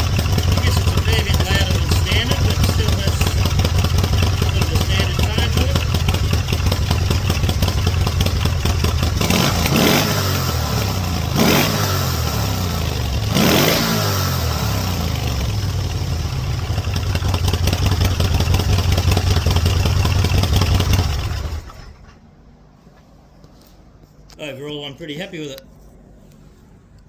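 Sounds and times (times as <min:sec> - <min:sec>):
motorcycle engine idling and revving: 0:00.0 - 0:22.2.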